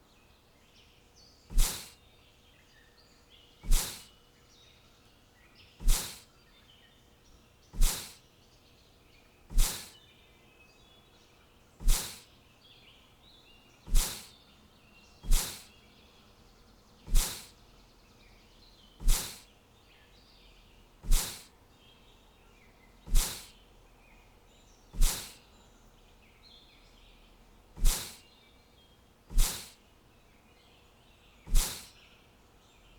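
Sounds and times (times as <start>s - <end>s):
faint birds chirping: 0.0s - 32.9s.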